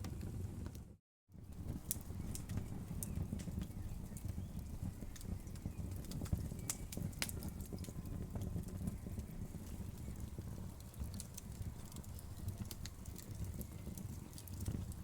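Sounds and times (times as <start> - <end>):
burning wood crackling and popping: 0.0 - 15.0
fire flames rumbling: 0.0 - 15.0.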